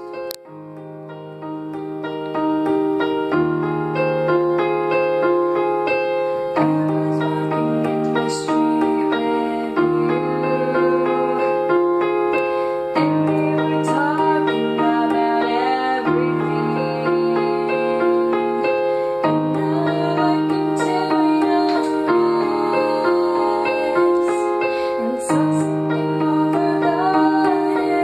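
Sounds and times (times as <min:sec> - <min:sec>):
keyboard piano chords: 0:00.0 - 0:28.0.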